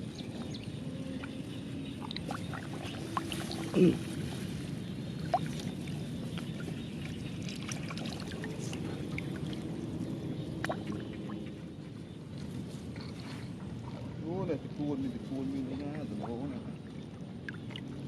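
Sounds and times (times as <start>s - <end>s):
muddy water sloshing: 0.0s - 18.0s.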